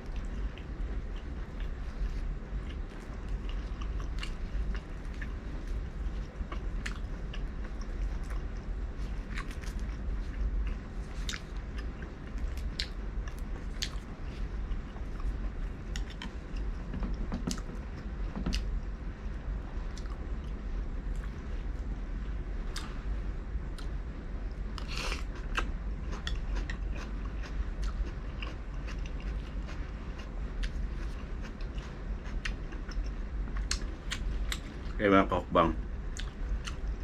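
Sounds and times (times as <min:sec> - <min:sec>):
low hum: 0:00.0 - 0:37.0
person chewing and biting: 0:00.1 - 0:18.7, 0:24.7 - 0:35.0, 0:36.2 - 0:37.0.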